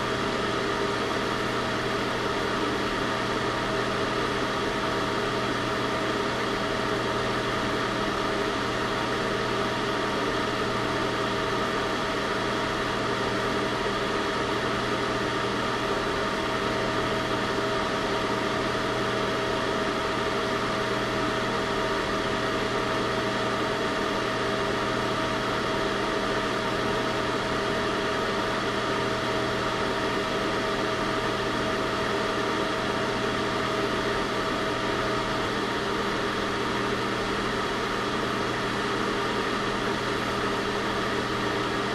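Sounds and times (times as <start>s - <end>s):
heater running: 0.0s - 41.9s.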